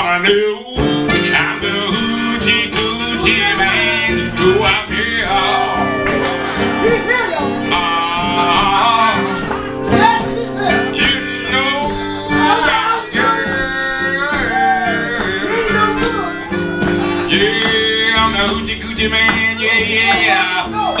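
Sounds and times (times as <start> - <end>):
strummed acoustic guitar: 0.0 - 21.0
blues harmonica bending notes: 0.7 - 21.0.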